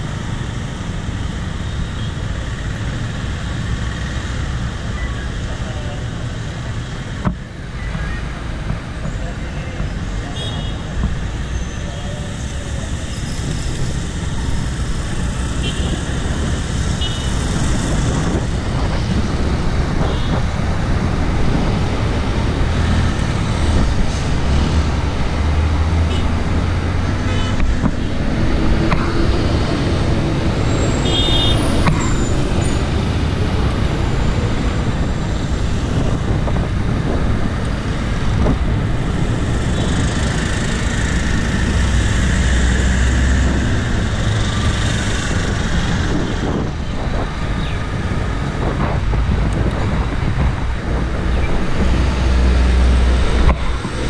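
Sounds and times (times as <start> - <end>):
steady low traffic rumble: 0.0 - 54.0
vehicles passing: 0.0 - 54.0.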